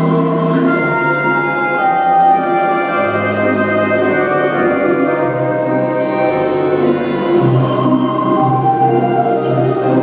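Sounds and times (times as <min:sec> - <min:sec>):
orchestral chords: 0:00.0 - 0:10.0.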